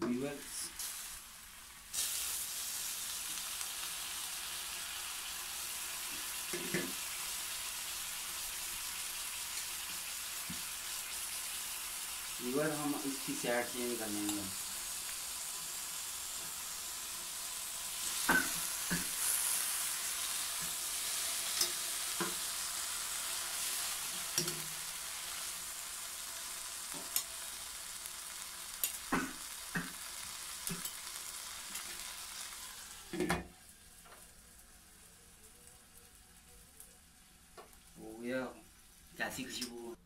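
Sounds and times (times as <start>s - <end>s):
chicken sizzling in a pan: 0.0s - 40.0s.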